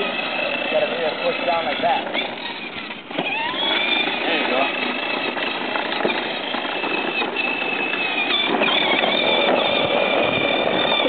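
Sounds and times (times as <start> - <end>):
electric motor whine: 0.0 - 11.0
plastic wheels rolling on concrete: 0.0 - 11.0.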